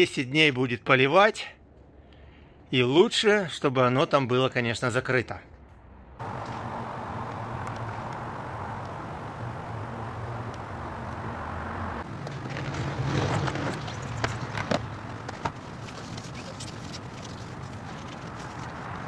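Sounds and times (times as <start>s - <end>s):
low outdoor hum: 0.0s - 19.0s.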